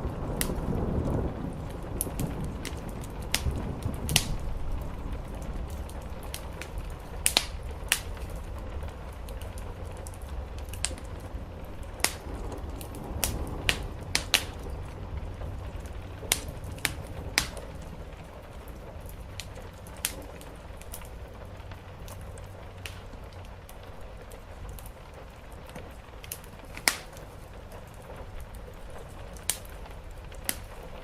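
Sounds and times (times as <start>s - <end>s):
low background rumble: 0.0s - 31.0s
sharp fire pops: 0.0s - 31.0s
wood fire crackling: 0.0s - 31.0s.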